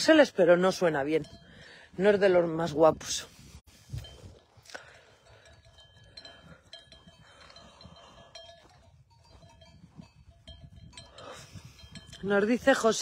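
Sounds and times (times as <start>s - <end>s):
livestock bells clanking: 0.0s - 2.6s, 4.0s - 13.0s
low wind rumble: 0.0s - 13.0s.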